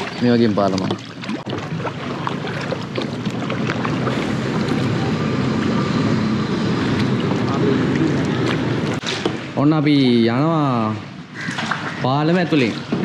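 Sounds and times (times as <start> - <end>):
small water splashes: 0.0 - 9.8, 10.9 - 13.0
paddles dipping and dripping: 0.0 - 13.0.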